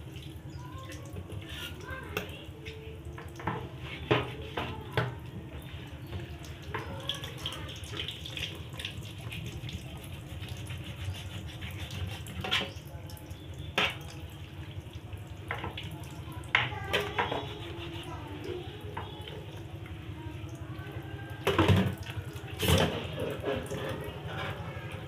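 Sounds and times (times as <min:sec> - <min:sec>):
tap water running into metal sink: 0:00.0 - 0:25.0.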